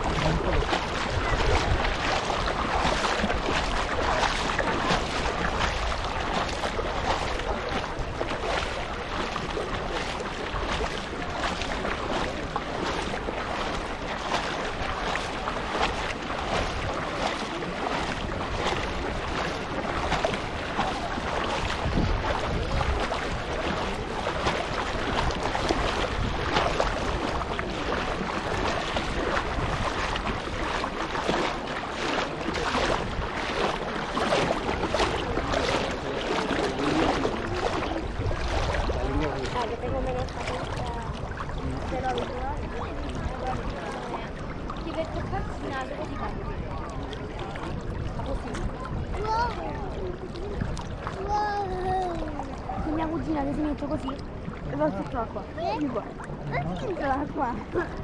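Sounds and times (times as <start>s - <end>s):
seawater lapping and splashing: 0.0s - 58.0s
wind buffeting microphone: 0.0s - 58.0s.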